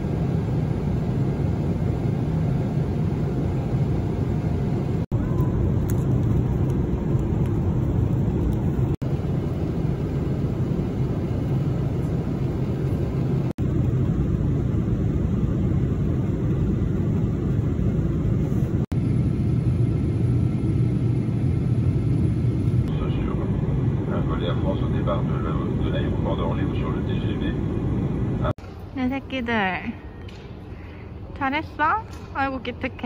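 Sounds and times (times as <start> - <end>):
airliner cabin noise: 0.0 - 29.6.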